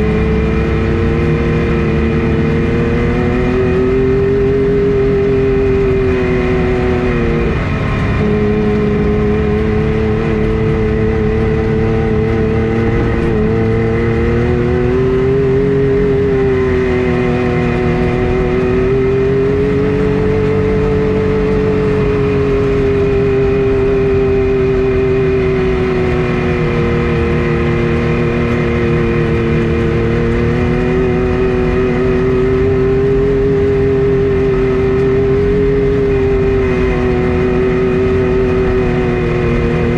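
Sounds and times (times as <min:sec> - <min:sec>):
vehicle engine cruising: 0:00.0 - 0:39.9.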